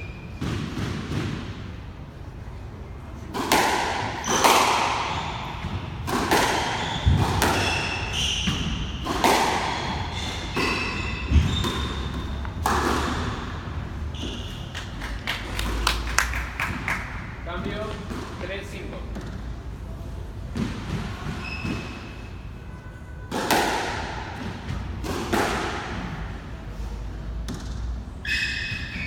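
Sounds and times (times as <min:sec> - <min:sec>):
court shoes squeaking: 0:00.0 - 0:01.4, 0:03.2 - 0:29.0
squash ball hitting rackets and walls: 0:00.0 - 0:02.1, 0:03.2 - 0:22.6, 0:23.2 - 0:29.0.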